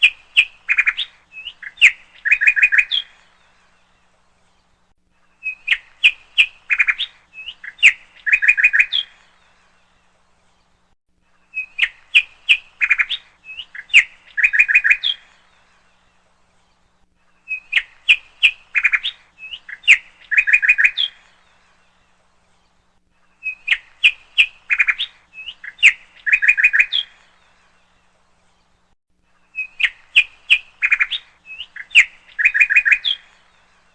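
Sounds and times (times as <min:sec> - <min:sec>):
songbird chirps and trills: 0:00.0 - 0:33.9.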